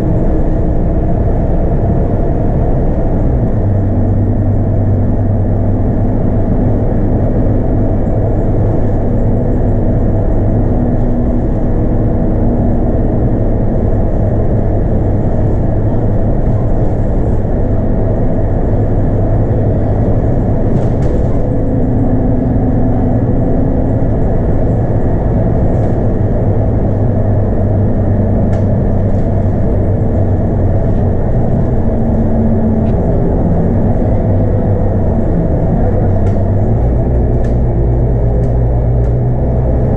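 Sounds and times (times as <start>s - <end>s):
bus engine droning: 0.0s - 39.9s
road noise: 0.0s - 39.9s.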